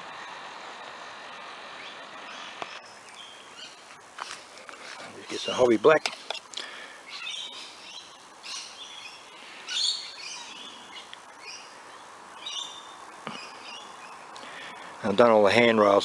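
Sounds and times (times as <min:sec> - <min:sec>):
faint outdoor background noise: 0:00.0 - 0:16.0
wild birds chirping and calling: 0:01.6 - 0:15.3.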